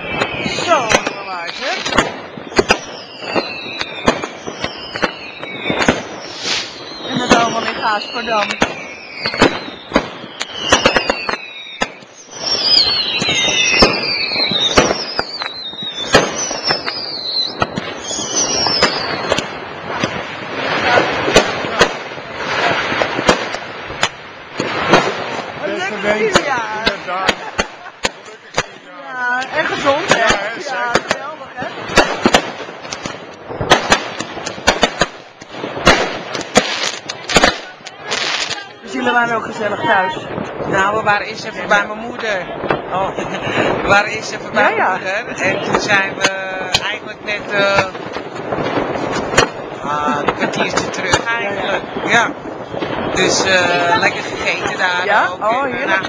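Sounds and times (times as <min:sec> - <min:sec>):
firecracker bangs: 0:00.0 - 0:56.0
whistling fireworks: 0:00.0 - 0:56.0.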